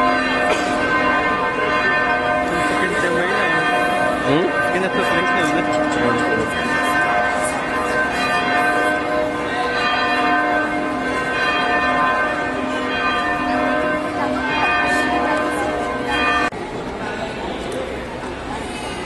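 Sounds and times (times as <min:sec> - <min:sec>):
church bells ringing: 0:00.0 - 0:16.9.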